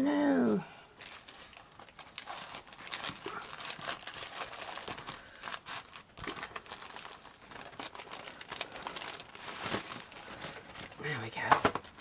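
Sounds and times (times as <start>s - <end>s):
paper and card rustling: 1.0s - 12.0s.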